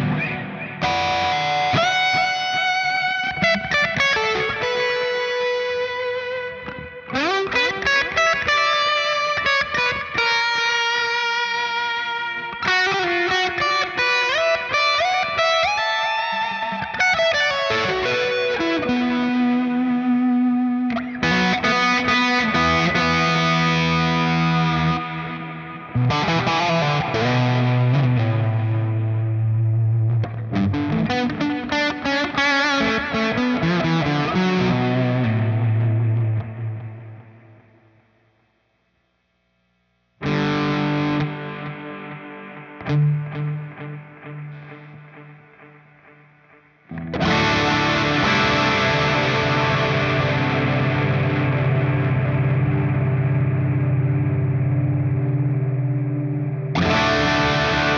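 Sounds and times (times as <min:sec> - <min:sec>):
overdriven electric guitar with delay: 0:00.0 - 0:38.3, 0:40.2 - 0:57.9.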